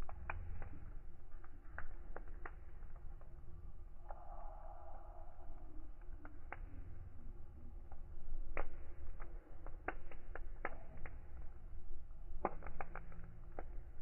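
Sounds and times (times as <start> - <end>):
low steady rumble: 0.0 - 14.0
wood fire crackling and popping: 0.0 - 14.0.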